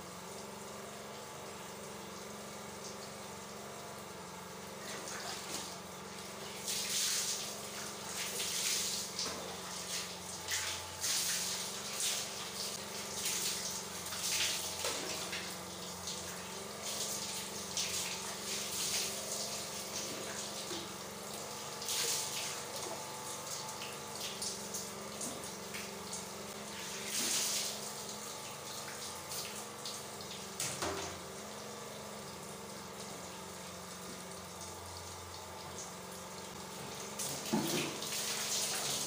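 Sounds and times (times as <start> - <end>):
water pouring and splashing: 6.3 - 31.2, 32.6 - 39.0.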